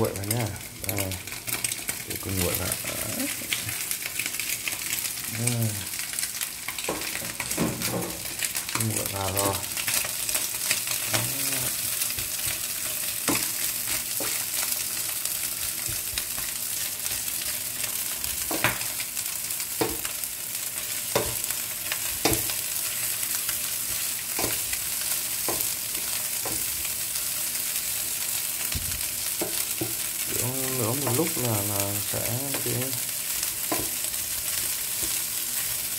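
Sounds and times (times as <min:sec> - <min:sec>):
rice and egg sizzling in pan: 0:00.0 - 0:35.9.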